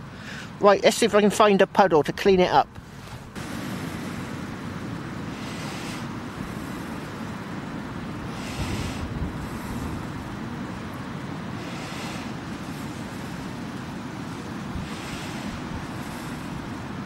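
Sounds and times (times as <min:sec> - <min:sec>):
strong wind buffeting microphone: 0:02.6 - 0:17.0.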